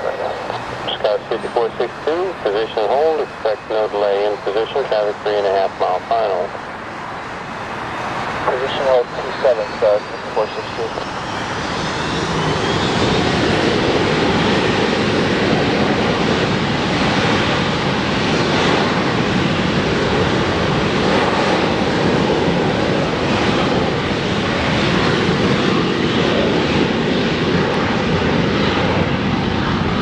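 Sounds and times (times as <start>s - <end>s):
jet engines roaring at takeoff: 0.0s - 30.0s.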